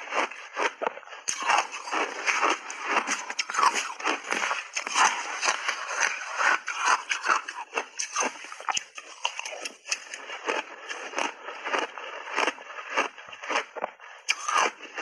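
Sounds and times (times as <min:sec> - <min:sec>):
crunching and chewing ice: 0:00.0 - 0:15.0.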